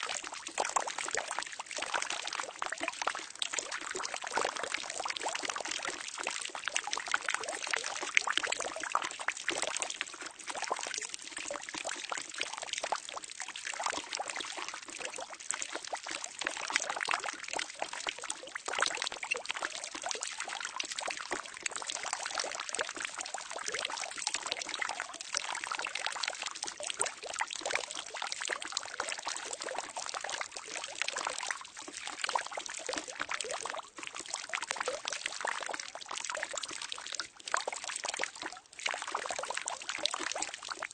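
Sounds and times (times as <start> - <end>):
water pouring into a barrel: 0.0 - 40.9.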